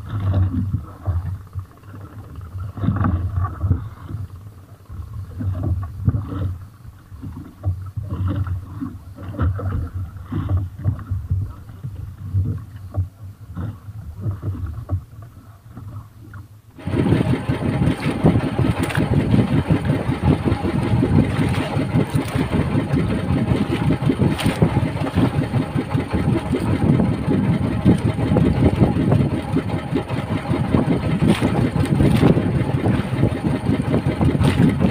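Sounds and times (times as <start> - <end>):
water splashing: 0.0 - 34.9.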